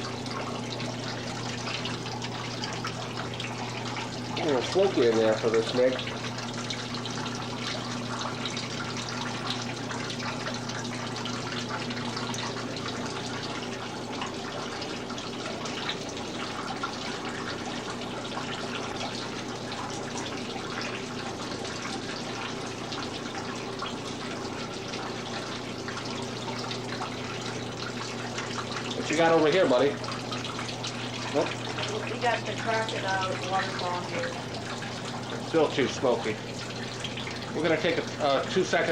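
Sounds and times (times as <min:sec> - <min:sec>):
low electric hum: 0:00.0 - 0:38.9
water splashing and trickling: 0:00.0 - 0:38.9.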